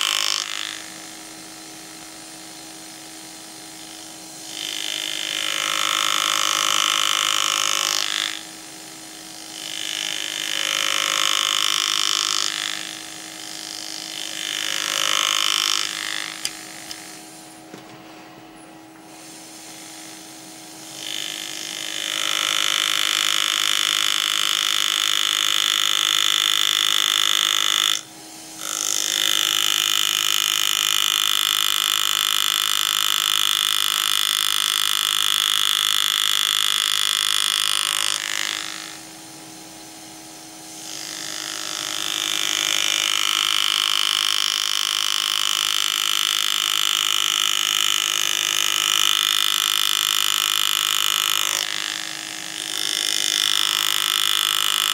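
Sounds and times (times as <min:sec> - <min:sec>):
engraving tool high-pitched whir: 0:00.0 - 0:17.8, 0:19.0 - 0:54.9.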